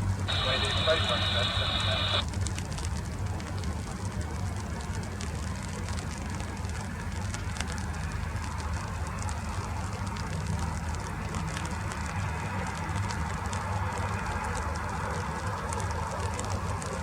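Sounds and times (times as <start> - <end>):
rain drops pattering: 0.0 - 17.0.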